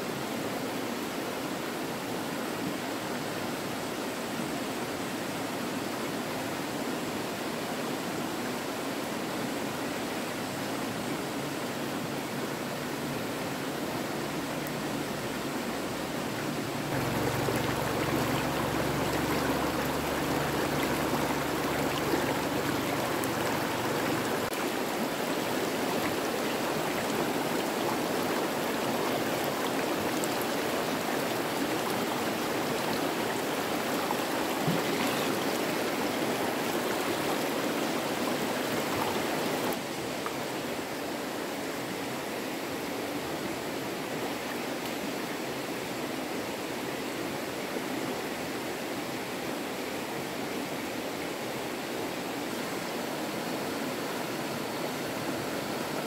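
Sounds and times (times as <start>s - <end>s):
stream water running over rocks: 0.0s - 56.0s.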